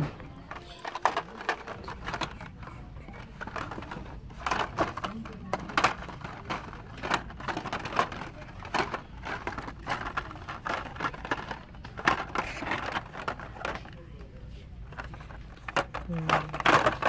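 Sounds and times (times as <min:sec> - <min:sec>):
plastic cards clacking and crinkling: 0:00.0 - 0:17.0.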